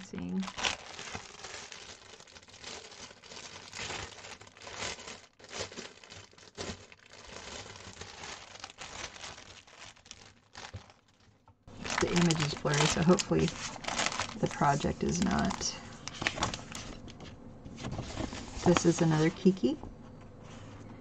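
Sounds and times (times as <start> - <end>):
plastic bag crinkling: 0.0 - 17.3, 17.9 - 19.7.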